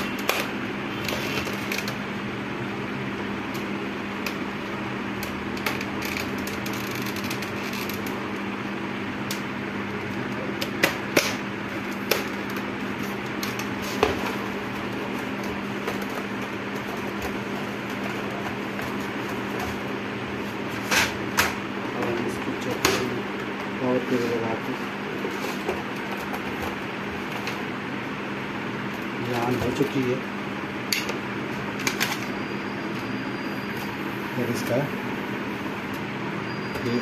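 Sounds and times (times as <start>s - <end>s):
fan hum: 0.0s - 37.0s.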